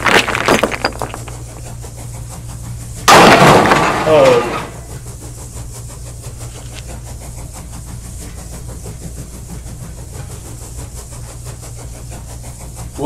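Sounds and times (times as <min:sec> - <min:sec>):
locomotive engine hum: 0:00.0 - 0:13.0.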